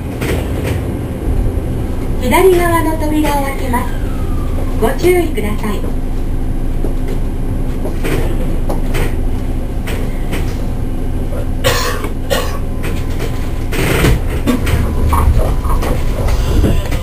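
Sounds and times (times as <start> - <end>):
electric train rumble and hum: 0.0 - 17.0.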